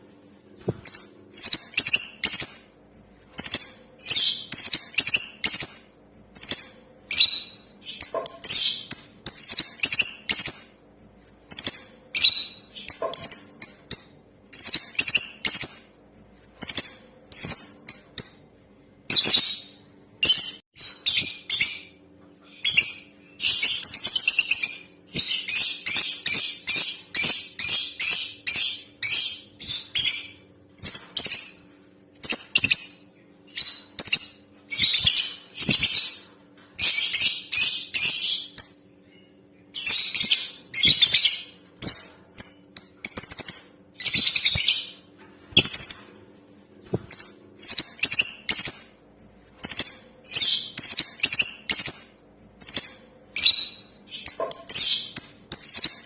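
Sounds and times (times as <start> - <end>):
lovebird chirping and chattering: 0.8 - 2.8, 3.4 - 10.9, 11.5 - 16.0, 16.6 - 46.3, 47.1 - 56.0.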